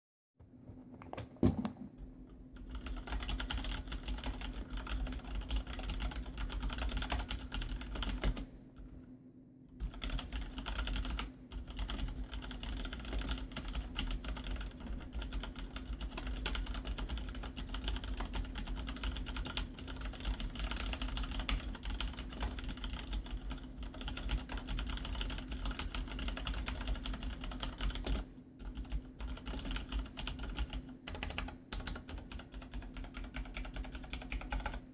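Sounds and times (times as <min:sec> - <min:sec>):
mechanical keyboard typing: 0:02.6 - 0:08.5, 0:09.8 - 0:34.9.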